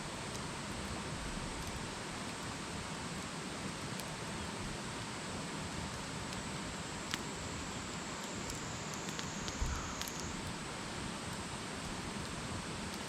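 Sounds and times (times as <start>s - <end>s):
campfire burning: 0.0s - 13.0s.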